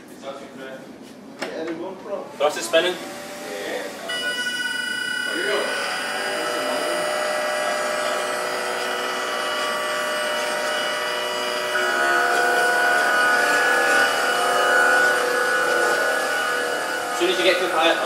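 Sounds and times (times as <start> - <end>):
small electric fans whining: 1.4 - 18.0.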